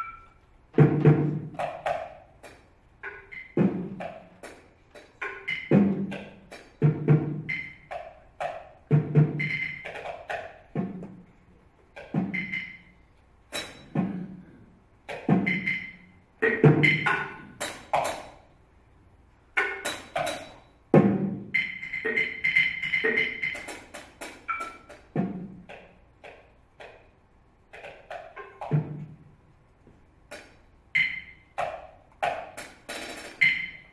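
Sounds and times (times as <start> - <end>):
mallets striking small percussion: 0.0 - 11.2, 12.0 - 14.3, 15.1 - 18.5, 19.6 - 27.1, 30.3 - 33.9.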